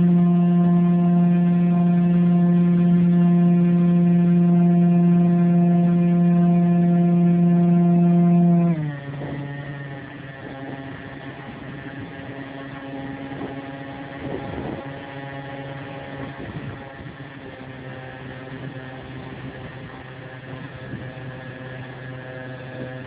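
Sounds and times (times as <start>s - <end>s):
model airplane motor droning: 0.0s - 23.0s.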